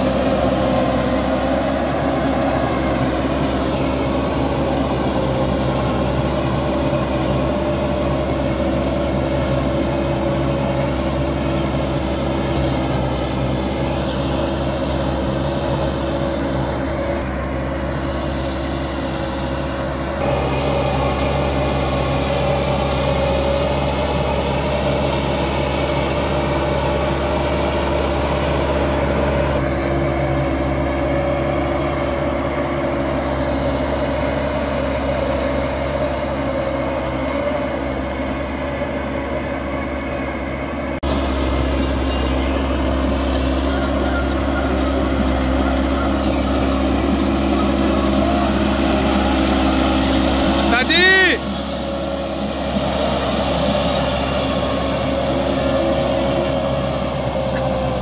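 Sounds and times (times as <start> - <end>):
rotavator tilling soil: 0.0 - 58.0
tractor diesel engine under load: 0.0 - 58.0.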